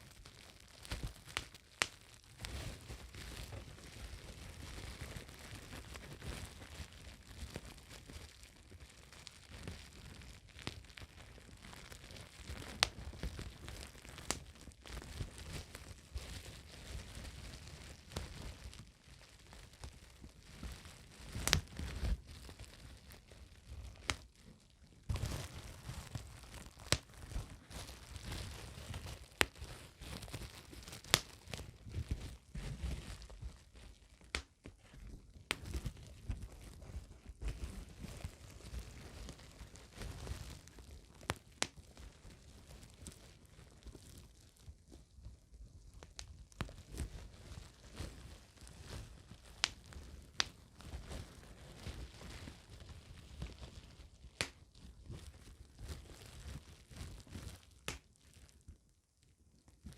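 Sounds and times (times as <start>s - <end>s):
bubble wrap crinkling: 0.0s - 59.9s
bubble wrap popping: 0.0s - 59.9s.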